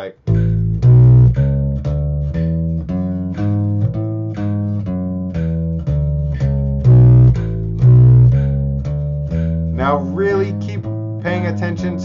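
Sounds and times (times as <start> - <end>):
electric bass guitar picked notes: 0.0 - 12.0.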